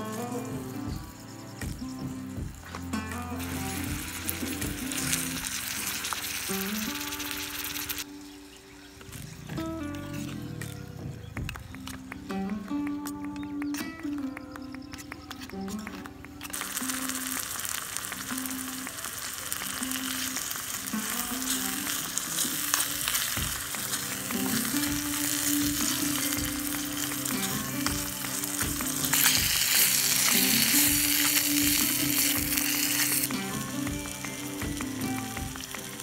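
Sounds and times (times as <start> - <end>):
gravy sizzling in a pot: 0.0 - 9.6, 16.5 - 36.0
soft background music: 0.0 - 36.0.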